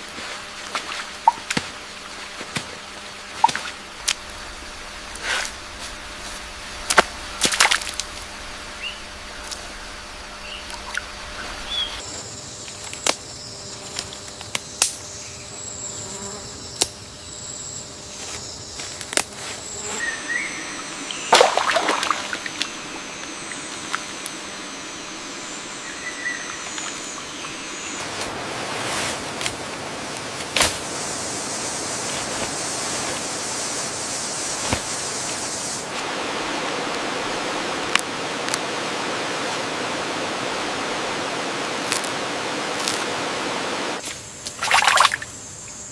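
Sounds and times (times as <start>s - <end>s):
even hiss: 0.0s - 45.9s
high insect drone: 0.0s - 45.9s.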